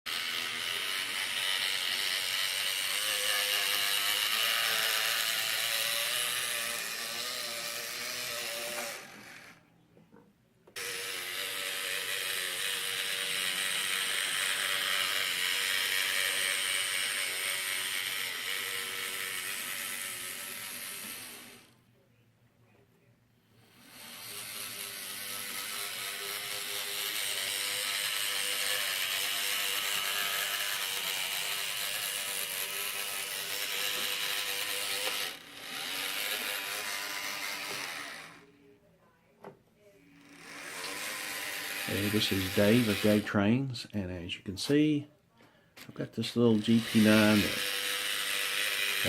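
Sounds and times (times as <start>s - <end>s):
model locomotive motor whirring: 0.1s - 9.6s, 10.7s - 21.8s, 23.5s - 38.7s, 40.0s - 43.4s, 46.0s - 49.0s.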